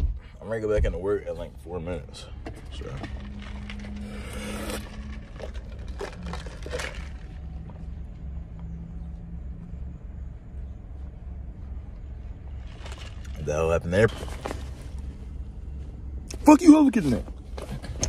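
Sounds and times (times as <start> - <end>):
car cabin rumble and hum: 0.0 - 18.0.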